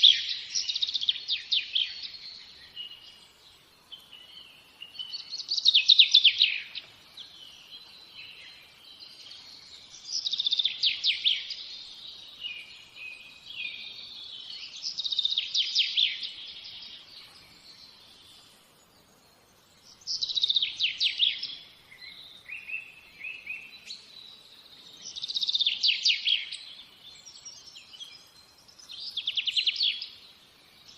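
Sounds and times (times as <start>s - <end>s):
songbird singing: 0.0s - 30.9s.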